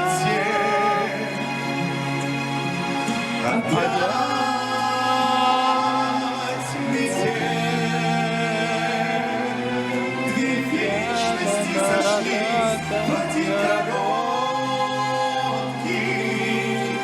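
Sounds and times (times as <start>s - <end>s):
orchestral ballad singing: 0.0s - 17.0s.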